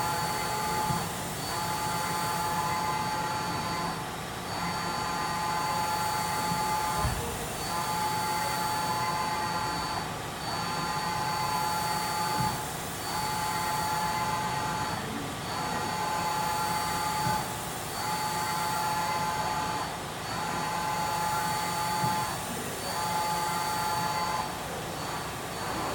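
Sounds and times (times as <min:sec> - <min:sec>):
machining center motor whine: 0:00.0 - 0:25.9.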